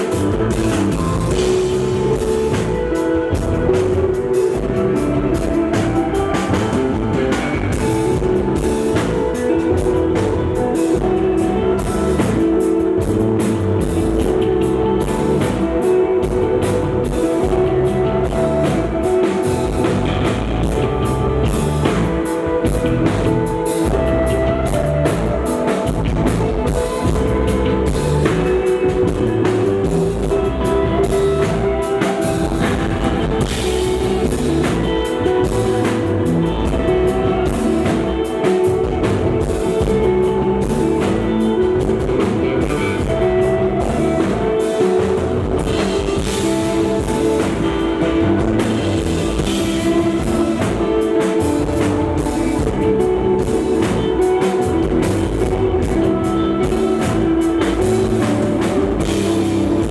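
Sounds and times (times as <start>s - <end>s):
electric guitar ringing notes: 0.0s - 59.9s
live rock band playing: 0.0s - 59.9s.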